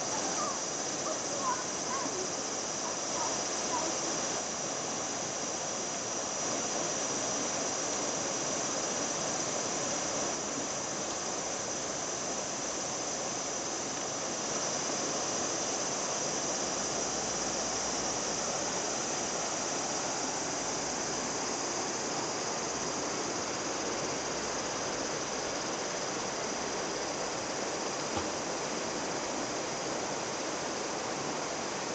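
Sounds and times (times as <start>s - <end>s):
river rushing: 0.0s - 31.9s.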